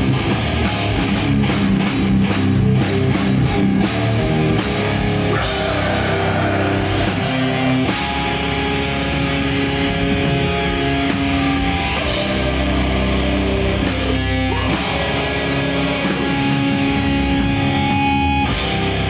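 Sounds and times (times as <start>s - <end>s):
bass and drums: 0.0s - 19.0s
distorted electric guitars: 0.0s - 19.0s.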